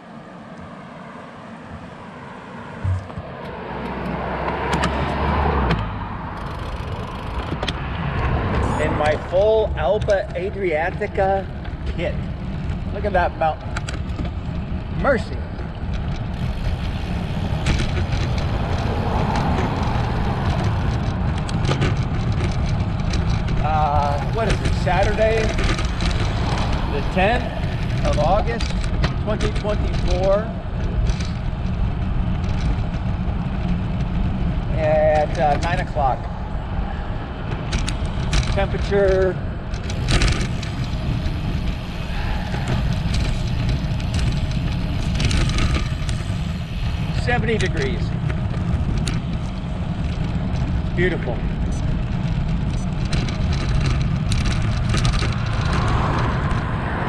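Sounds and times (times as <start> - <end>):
road noise: 0.0 - 57.0
wind buffeting microphone: 0.2 - 57.0.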